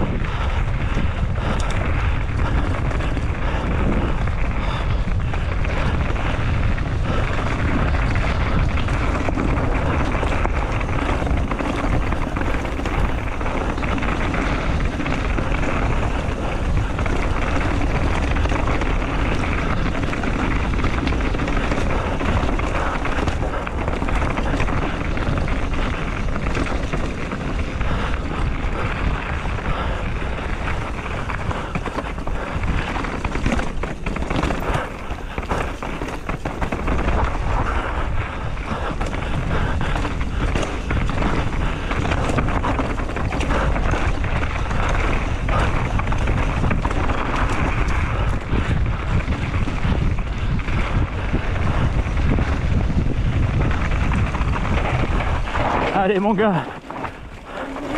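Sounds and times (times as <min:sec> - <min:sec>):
bike clicks and rattles: 0:00.0 - 0:57.9
tyres rolling on dirt and rock: 0:00.0 - 0:57.9
wind rush on microphone: 0:00.0 - 0:57.9.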